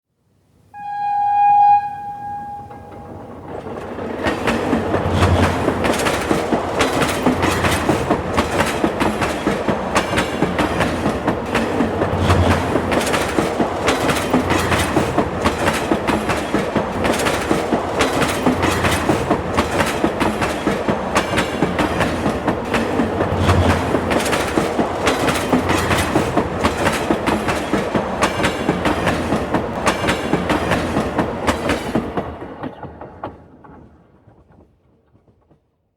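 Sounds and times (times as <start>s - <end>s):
subway train wheels clacking: 0.8s - 35.7s.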